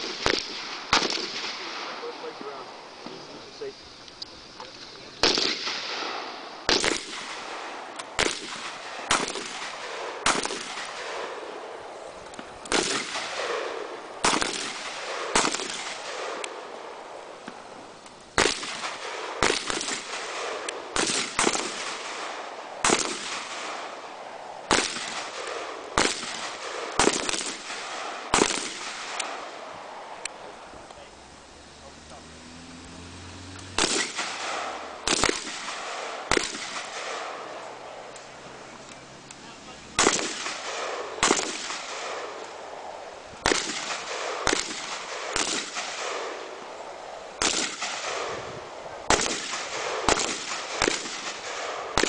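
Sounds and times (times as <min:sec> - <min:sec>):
rifle shots with echo: 0:00.0 - 0:02.7, 0:05.2 - 0:17.1, 0:18.4 - 0:31.1, 0:33.6 - 0:38.2, 0:39.9 - 0:52.0.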